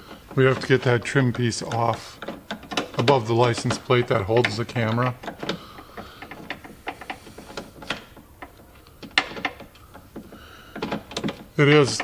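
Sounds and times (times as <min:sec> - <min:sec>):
hand tools clicking and knocking: 0:00.0 - 0:12.0.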